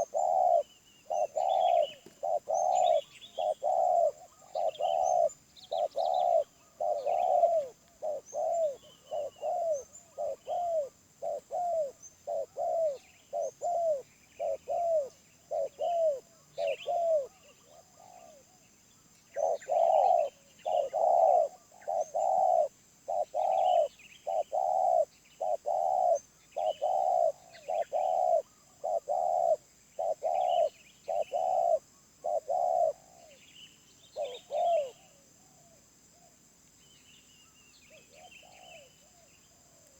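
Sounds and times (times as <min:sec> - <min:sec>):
dove cooing: 0:00.0 - 0:18.6, 0:19.3 - 0:33.4, 0:34.1 - 0:35.8, 0:37.9 - 0:39.9
small birds chirping: 0:00.0 - 0:39.9.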